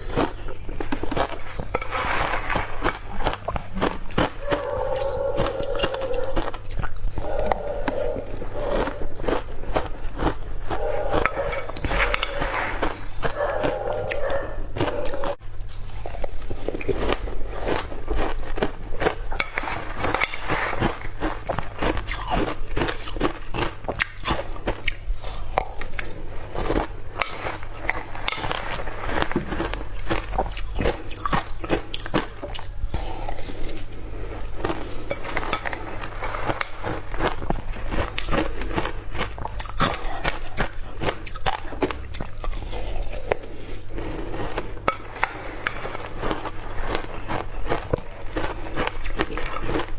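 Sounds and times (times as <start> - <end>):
ice crunching between teeth: 0.0 - 49.9
steady low hum: 0.0 - 49.9.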